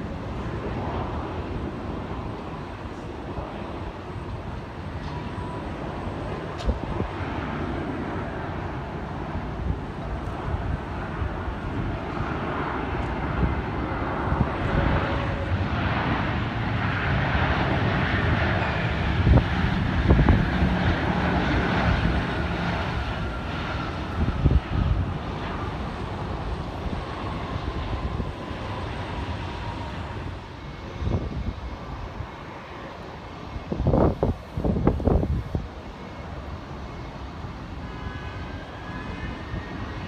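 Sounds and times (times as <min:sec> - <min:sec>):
jet engines roaring at takeoff: 0:00.0 - 0:40.0.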